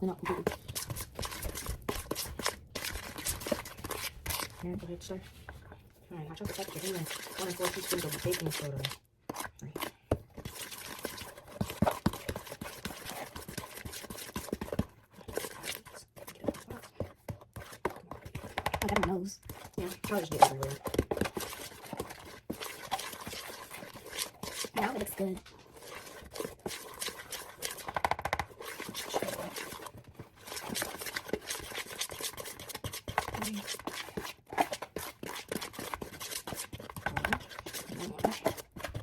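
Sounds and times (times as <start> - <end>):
utensil scraping mixing bowl: 0.0 - 39.0.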